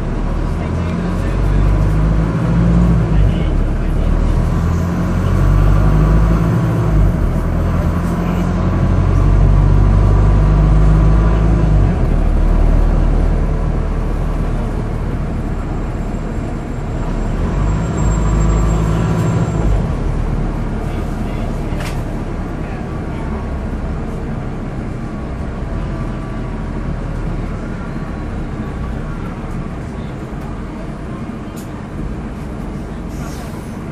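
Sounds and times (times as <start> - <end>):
bus diesel engine running: 0.0 - 33.9.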